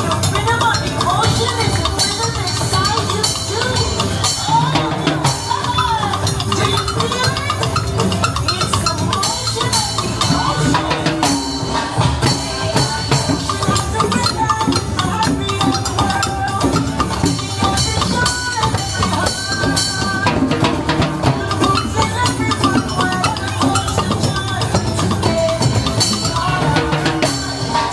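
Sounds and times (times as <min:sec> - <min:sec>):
upbeat music with drum beat: 0:00.0 - 0:27.9.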